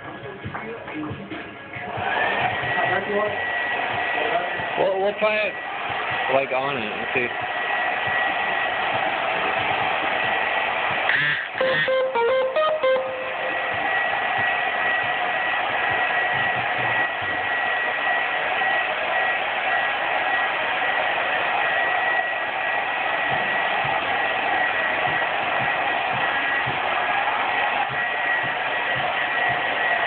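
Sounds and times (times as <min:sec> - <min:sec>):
hot-air blower running: 0:01.8 - 0:30.0.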